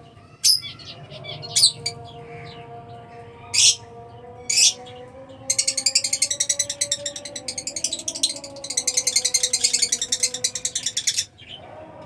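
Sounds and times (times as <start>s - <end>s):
lovebirds screeching: 0.3s - 11.7s.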